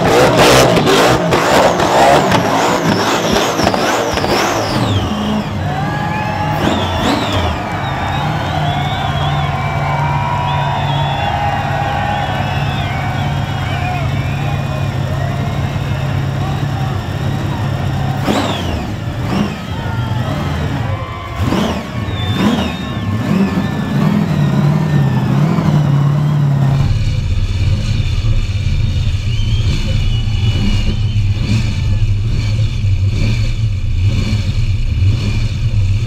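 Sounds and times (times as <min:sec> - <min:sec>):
engine revving and screaming: 0:00.0 - 0:36.0.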